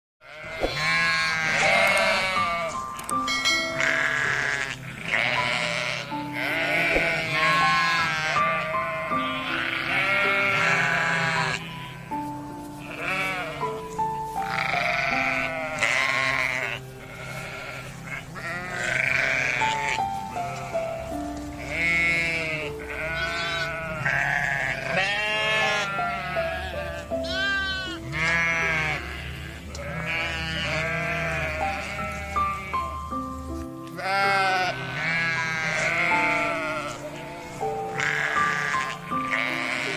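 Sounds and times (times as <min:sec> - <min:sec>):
sheep bleating: 0:00.2 - 0:02.8, 0:03.7 - 0:12.1, 0:12.8 - 0:33.1, 0:33.9 - 0:39.9
background music: 0:00.2 - 0:39.9.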